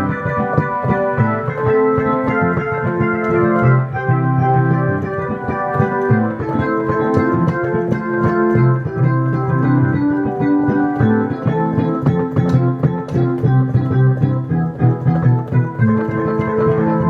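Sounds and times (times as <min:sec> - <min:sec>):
light ticking rhythm: 0:00.0 - 0:17.0
organ-like keyboard music: 0:00.0 - 0:17.0.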